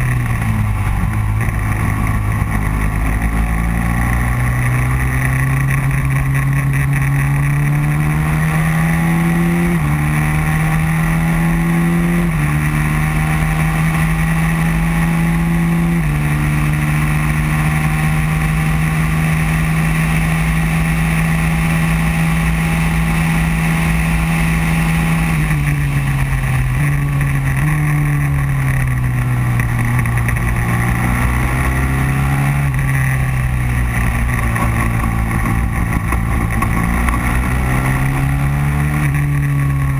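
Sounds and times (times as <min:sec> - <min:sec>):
kart engine running at speed: 0:00.0 - 0:39.9
wind and road noise: 0:00.0 - 0:39.9.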